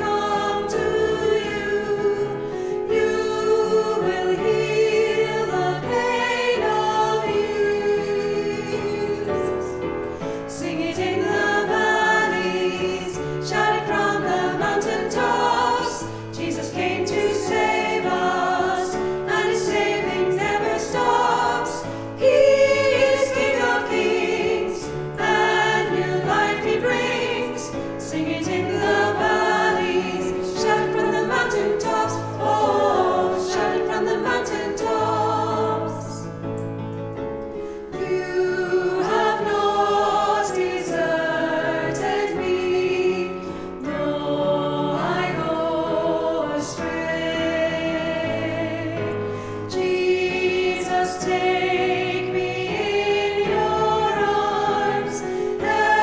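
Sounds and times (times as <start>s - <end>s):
choir singing a hymn: 0.0s - 36.8s, 37.6s - 56.0s.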